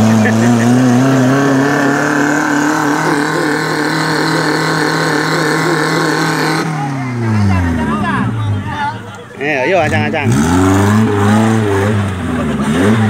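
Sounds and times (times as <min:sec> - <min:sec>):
engine at high revs: 0:00.0 - 0:13.0.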